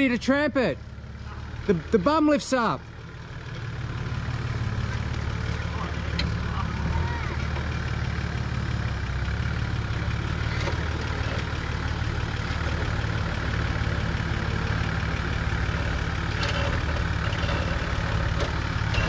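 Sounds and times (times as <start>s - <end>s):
truck engine running at low revs: 0.0s - 19.0s.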